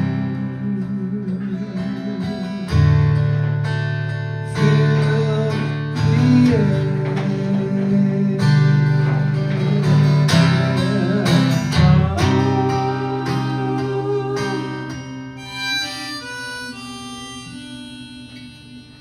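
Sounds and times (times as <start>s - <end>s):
acoustic guitar strumming: 0.0s - 19.0s
harmonica notes: 0.0s - 19.0s.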